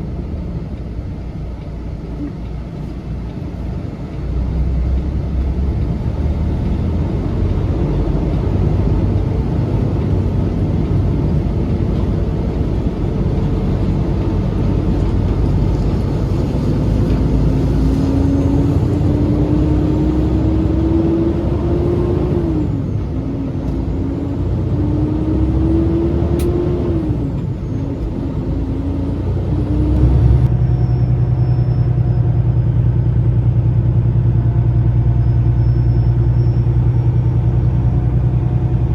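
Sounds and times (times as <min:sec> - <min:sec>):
road rumble: 0:00.0 - 0:38.9
truck diesel engine under load: 0:00.0 - 0:38.9.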